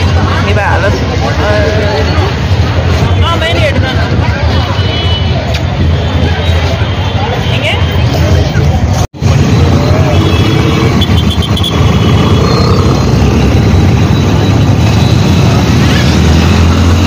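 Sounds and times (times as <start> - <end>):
dense road traffic rumble: 0.0 - 17.0.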